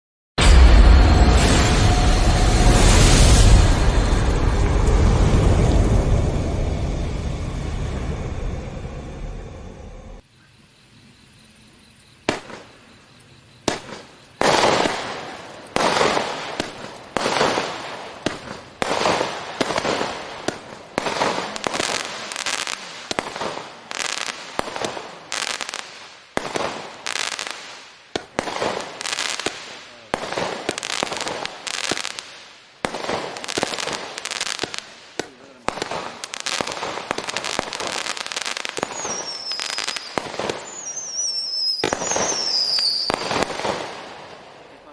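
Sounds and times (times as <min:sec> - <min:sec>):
firework bangs with crackle: 0:00.4 - 0:08.4, 0:12.2 - 0:12.8, 0:13.6 - 0:44.9
falling firework whistle: 0:00.4 - 0:10.2, 0:13.7 - 0:44.3.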